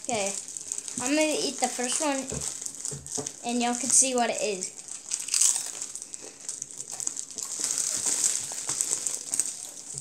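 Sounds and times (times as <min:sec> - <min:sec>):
crunching tortilla chip: 0:00.0 - 0:10.0.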